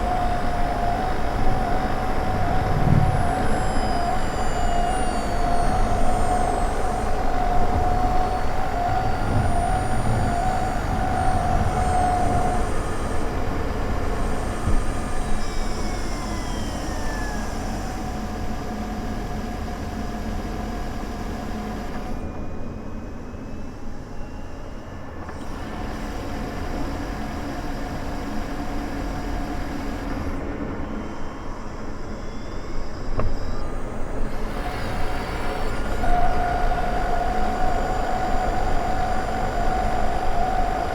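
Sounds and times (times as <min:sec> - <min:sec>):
engine whine: 0:00.0 - 0:40.9.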